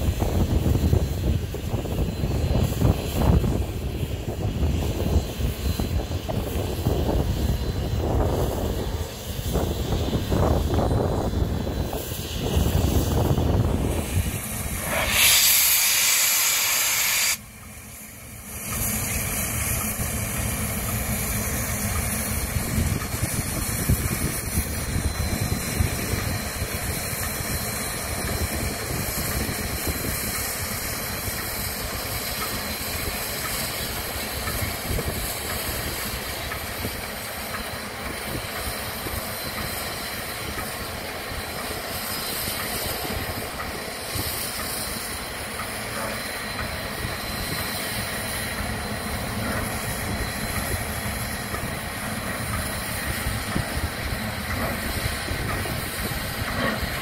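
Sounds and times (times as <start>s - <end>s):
locomotive hissing and rumbling: 0.0s - 57.0s
loud steam hiss: 0.0s - 57.0s.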